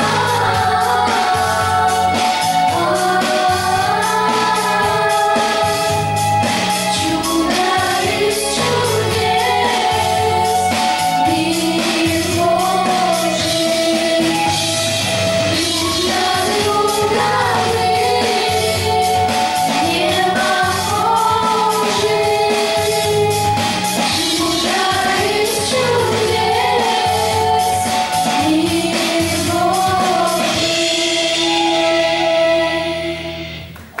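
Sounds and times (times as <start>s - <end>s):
girls singing together: 0.0s - 14.6s, 15.5s - 33.3s
instrumental accompaniment with bass: 0.0s - 34.0s.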